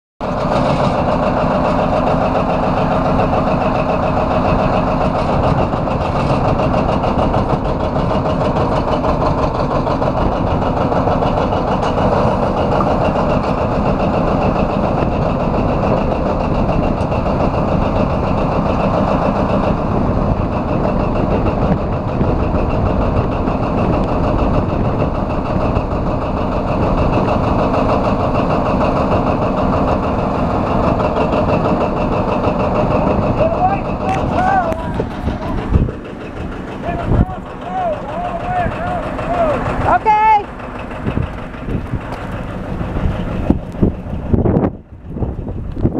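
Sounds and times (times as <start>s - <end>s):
tractor diesel engine running: 0.2s - 45.9s.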